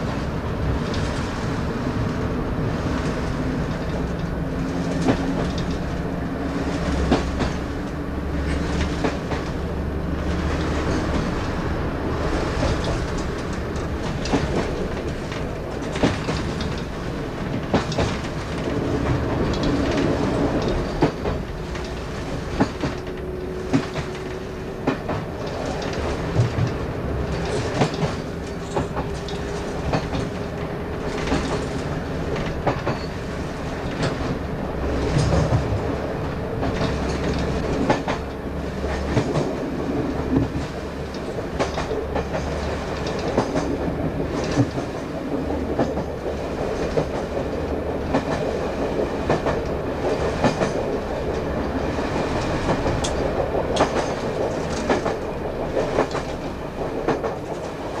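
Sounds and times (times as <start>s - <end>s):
train running noise: 0.0s - 58.0s
wheels clicking over rail joints: 0.0s - 58.0s.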